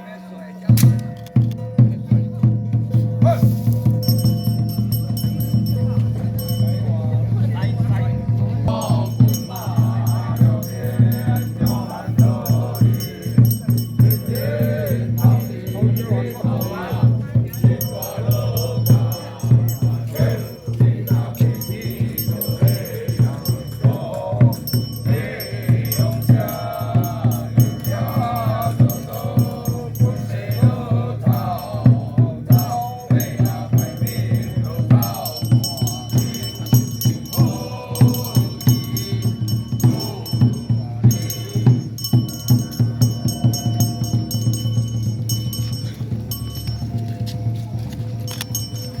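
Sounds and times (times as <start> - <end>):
fast steady percussion beat: 0.0 - 49.0
people chanting together: 0.0 - 49.0
rattling jingling metal: 3.0 - 49.0.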